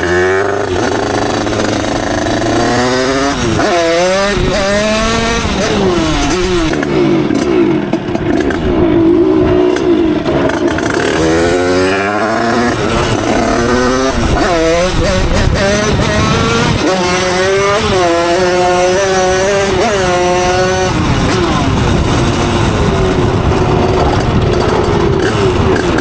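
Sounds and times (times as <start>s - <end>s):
moped engine revving: 0.0s - 26.0s.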